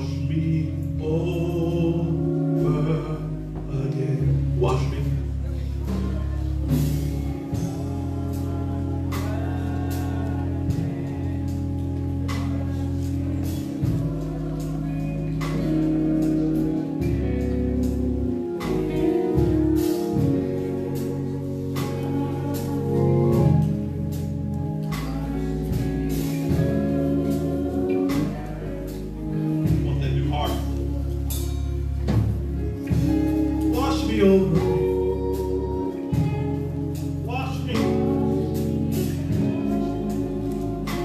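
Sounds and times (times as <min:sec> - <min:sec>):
gospel singing: 0:00.0 - 0:41.0
held low instrumental notes: 0:00.0 - 0:41.0.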